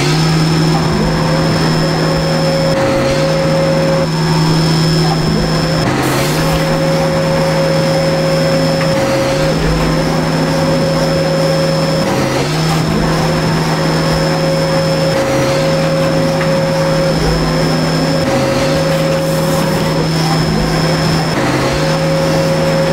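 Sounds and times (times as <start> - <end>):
milling machine motor hum: 0.0 - 22.9.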